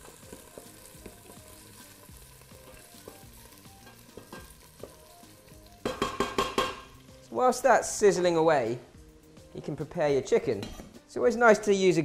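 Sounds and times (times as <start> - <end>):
aromatics sizzling in oil: 0.0 - 11.0.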